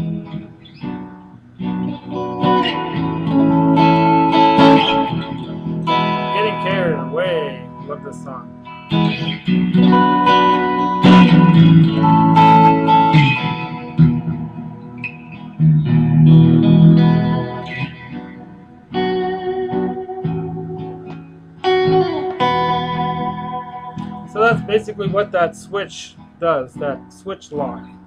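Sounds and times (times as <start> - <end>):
electric guitar notes and chords: 0.0 - 28.0.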